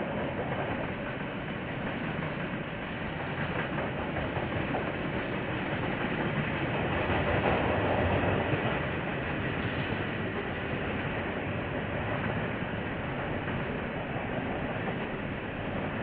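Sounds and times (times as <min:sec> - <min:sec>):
train wagons rattling past: 0:00.0 - 0:16.0.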